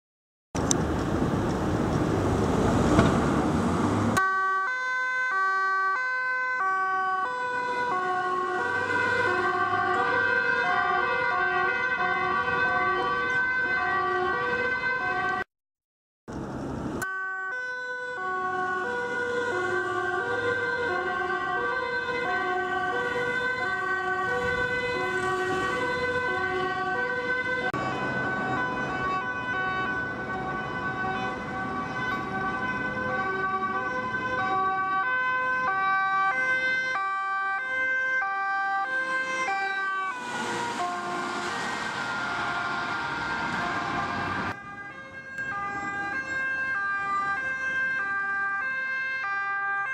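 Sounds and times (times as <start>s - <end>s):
road noise from passing vehicle: 0.6s - 15.4s, 16.3s - 49.9s
two-tone sirens: 3.9s - 15.5s, 16.9s - 49.9s.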